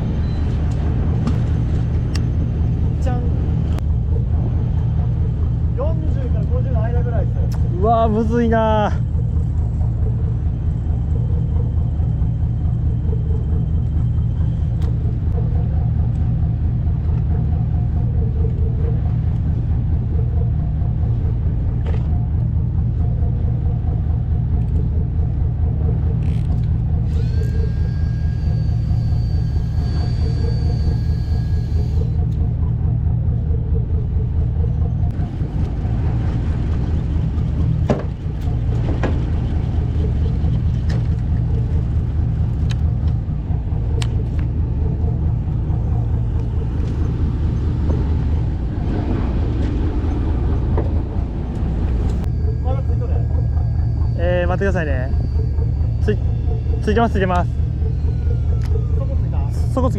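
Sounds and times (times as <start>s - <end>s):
boat engine rumbling: 0.0s - 59.9s.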